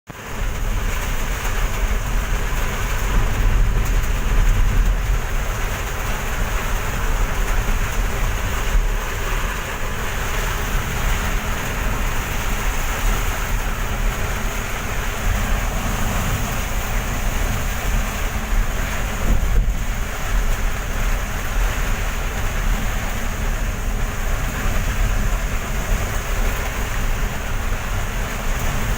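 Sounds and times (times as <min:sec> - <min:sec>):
heavy rain pouring: 0:00.1 - 0:28.9
low rumble: 0:00.3 - 0:28.9.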